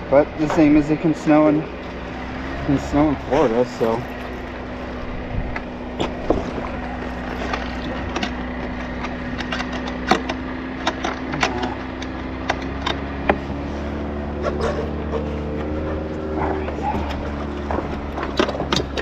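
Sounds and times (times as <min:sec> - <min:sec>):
low motor hum: 0:00.0 - 0:19.0
handling knocks and clicks: 0:02.1 - 0:13.7, 0:14.4 - 0:19.0.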